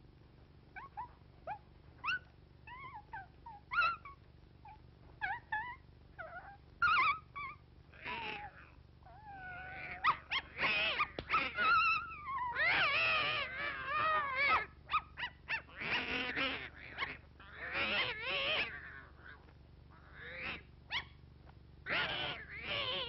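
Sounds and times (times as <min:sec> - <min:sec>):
cartoon puppy yips and whimpers: 0:00.8 - 0:19.4, 0:21.9 - 0:23.0.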